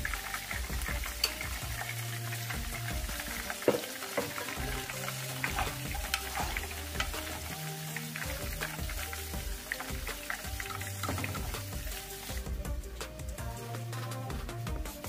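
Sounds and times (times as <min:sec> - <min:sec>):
fries sizzling in oil: 0:00.0 - 0:15.0.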